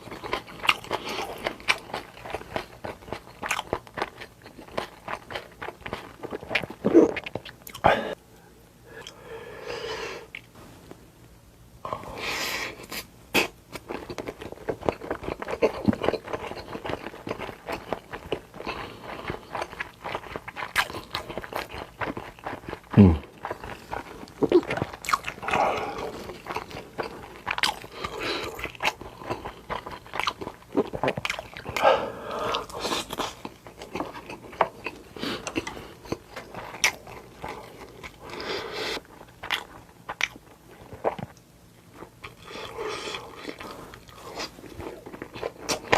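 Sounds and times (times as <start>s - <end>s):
biting crunching and chewing: 0.0s - 7.9s, 12.9s - 41.4s, 42.0s - 45.9s.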